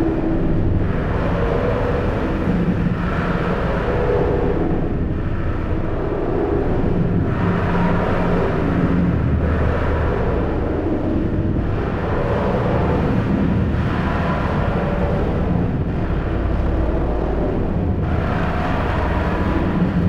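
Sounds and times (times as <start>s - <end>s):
low drone: 0.0s - 20.0s.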